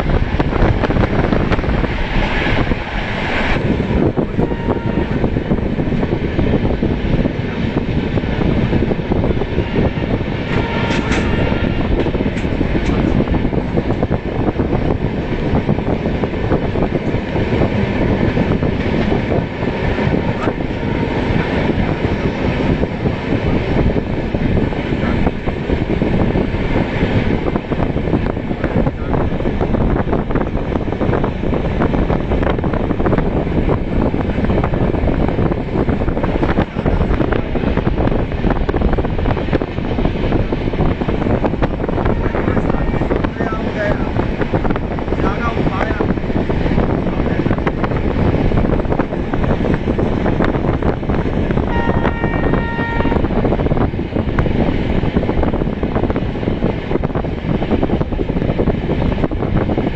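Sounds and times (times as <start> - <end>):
train wheels rumbling on rails: 0.0 - 59.9
wind rushing: 0.0 - 59.9.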